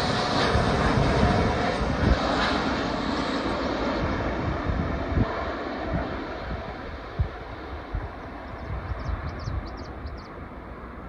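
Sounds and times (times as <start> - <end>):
jet airliner roar: 0.0 - 11.0.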